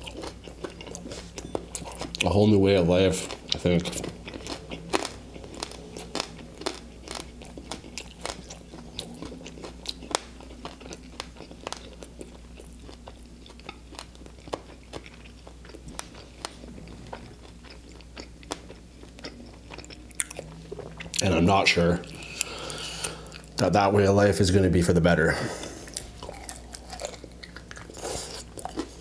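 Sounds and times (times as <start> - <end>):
crunchy chewing: 0.0 - 21.3, 25.6 - 29.0.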